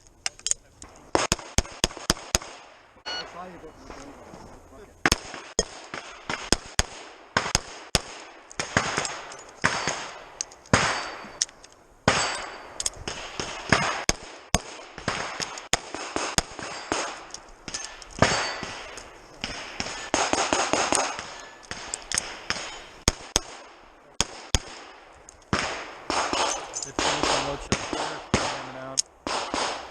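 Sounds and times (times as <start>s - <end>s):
gunshots: 0.8s - 4.2s, 5.0s - 11.4s, 12.0s - 29.9s.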